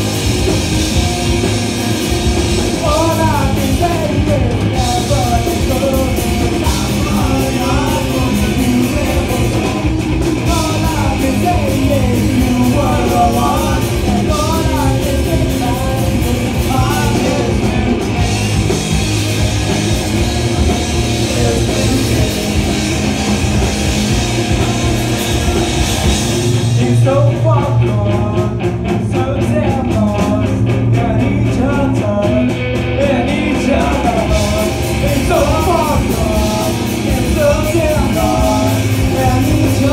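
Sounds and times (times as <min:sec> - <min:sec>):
bass guitar: 0:00.0 - 0:39.9
drum kit: 0:00.0 - 0:39.9
electric guitar: 0:00.0 - 0:39.9
man singing: 0:00.9 - 0:18.5, 0:19.8 - 0:39.9.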